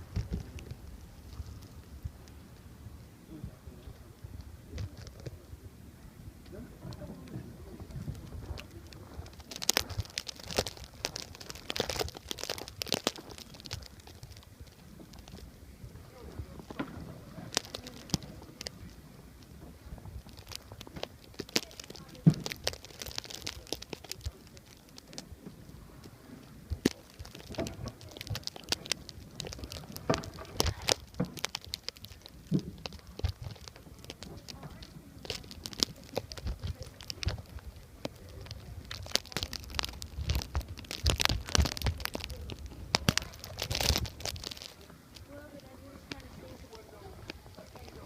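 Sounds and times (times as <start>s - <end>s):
crackles and clicks: 0.0s - 48.0s
wind buffeting microphone: 0.0s - 48.0s.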